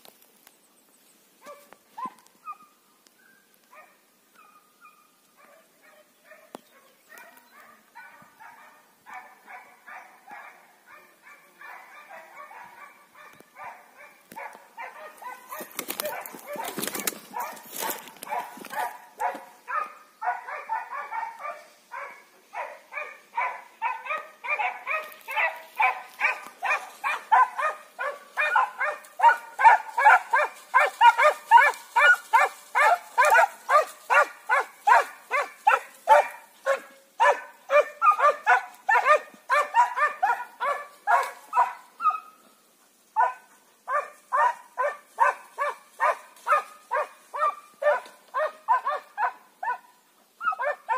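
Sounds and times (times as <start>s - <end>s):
hounds barking: 1.4s - 2.8s, 3.7s - 42.4s, 43.1s - 50.9s.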